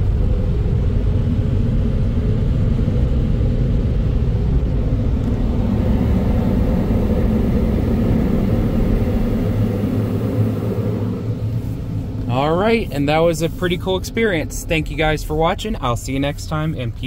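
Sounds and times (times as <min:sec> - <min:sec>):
car wash blower dryers rumbling: 0:00.0 - 0:17.0.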